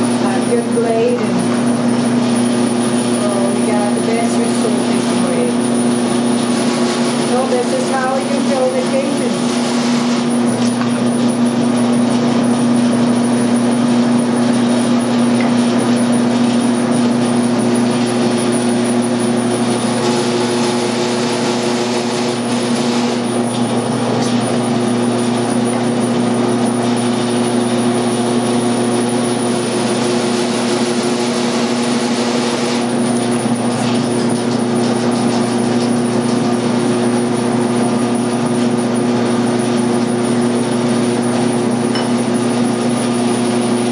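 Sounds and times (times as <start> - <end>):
meat grinder motor humming: 0.0 - 43.9.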